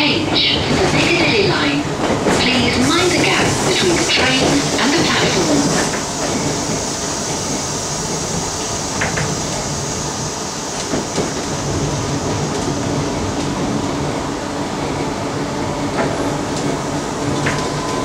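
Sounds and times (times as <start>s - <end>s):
train carriage equipment humming: 0.0s - 18.0s.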